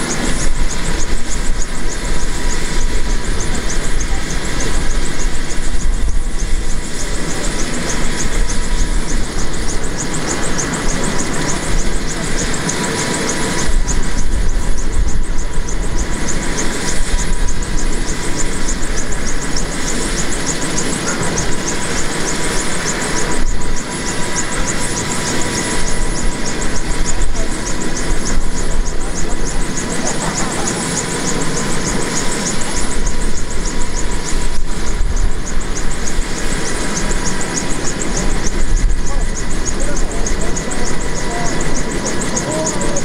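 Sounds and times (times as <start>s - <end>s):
helicopter rotor rushing noise: 0.0s - 43.0s
high turbine whine: 0.0s - 43.0s.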